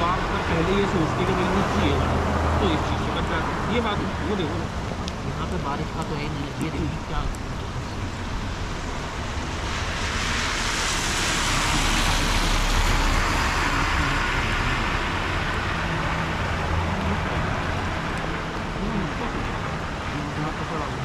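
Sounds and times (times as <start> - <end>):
car tyres hissing through water: 0.0 - 21.0
low engine hum: 0.0 - 21.0.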